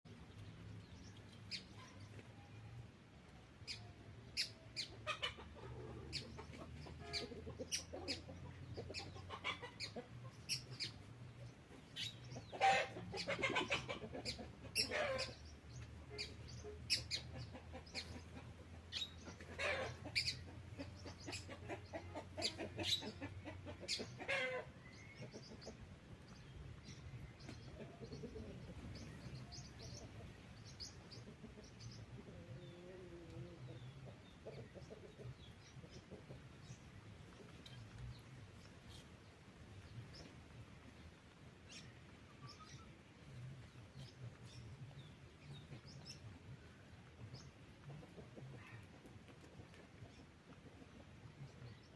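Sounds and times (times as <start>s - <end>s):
birds chirping: 0.1s - 51.9s.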